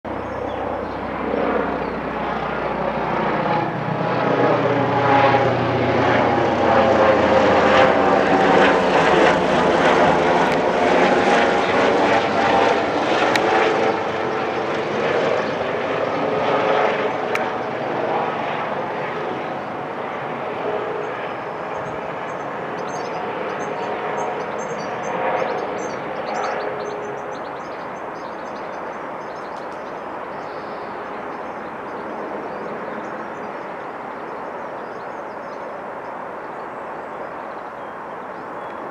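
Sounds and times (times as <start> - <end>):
helicopter rotor and engine: 0.1 - 38.9.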